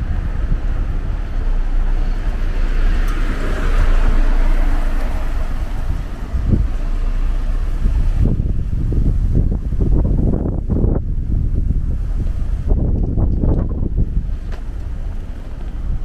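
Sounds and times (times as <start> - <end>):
gusty wind buffeting microphone: 0.0 - 16.0
street noise: 0.0 - 16.0.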